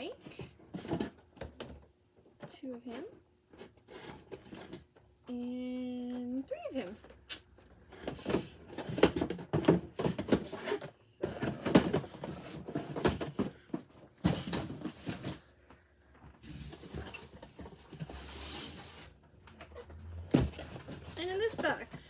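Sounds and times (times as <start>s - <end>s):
cardboard and plastic rustling: 0.0s - 1.9s, 2.9s - 5.1s, 7.8s - 22.0s.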